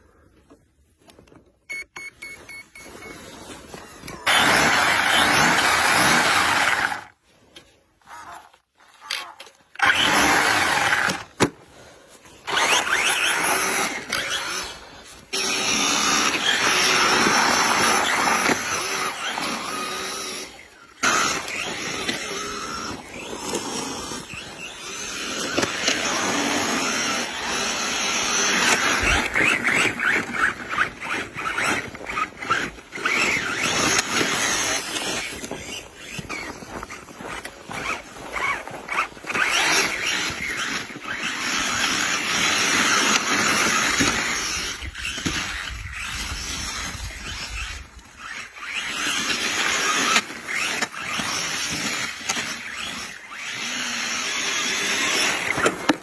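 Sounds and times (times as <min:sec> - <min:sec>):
rc car tyres scrubbing pavement: 0:02.2 - 0:56.0.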